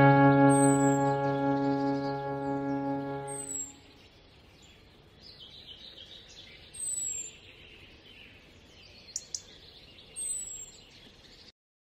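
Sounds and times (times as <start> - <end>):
birds chirping faintly: 0.0 - 11.5.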